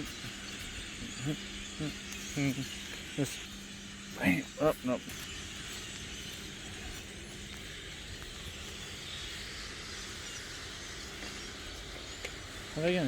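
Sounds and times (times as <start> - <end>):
flock of birds chattering: 0.0 - 13.0.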